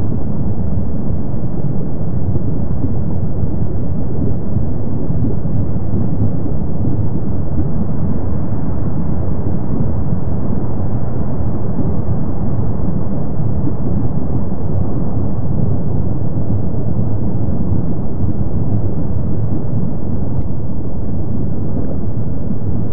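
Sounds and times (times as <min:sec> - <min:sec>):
lava fountain low rumble: 0:00.0 - 0:22.9.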